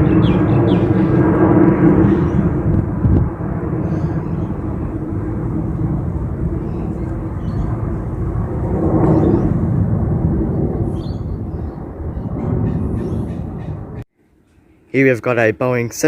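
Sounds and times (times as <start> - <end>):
jet airliner engine noise: 0.0 - 14.1.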